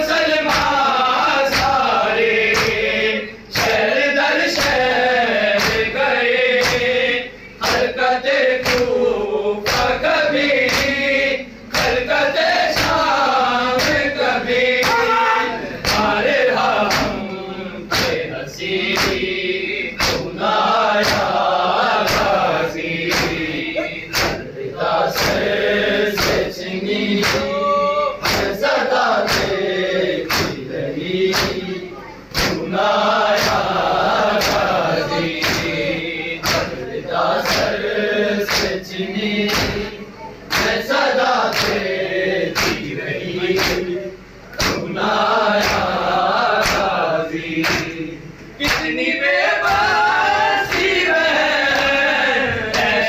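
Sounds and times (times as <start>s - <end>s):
men chanting in unison: 0.0s - 53.0s.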